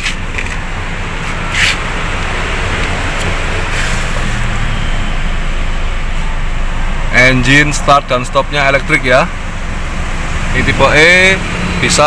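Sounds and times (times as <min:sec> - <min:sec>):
car idling inside cabin: 0:00.0 - 0:12.0.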